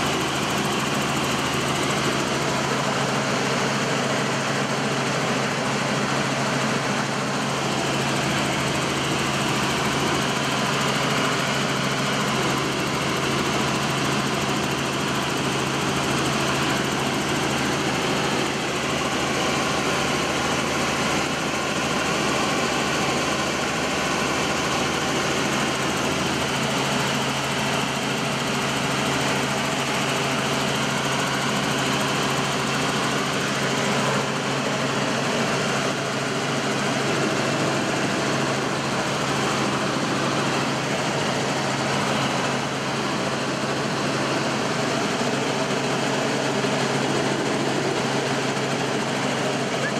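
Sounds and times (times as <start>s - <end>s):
helicopter engine and rotor drone: 0.0s - 49.9s.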